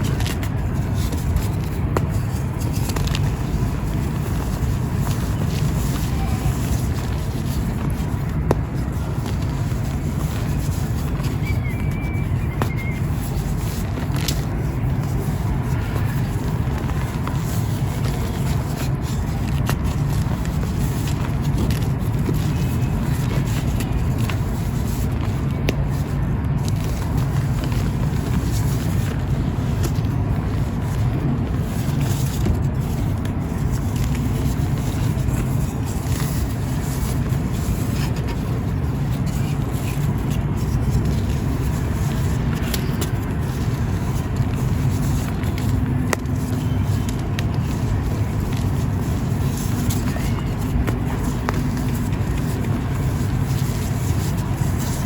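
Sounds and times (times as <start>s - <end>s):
constant low rumble: 0.0s - 55.0s.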